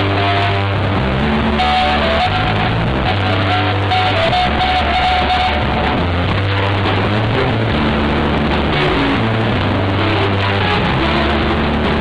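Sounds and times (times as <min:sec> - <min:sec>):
bass guitar low notes: 0:00.0 - 0:12.0
electric guitar playing: 0:00.0 - 0:12.0.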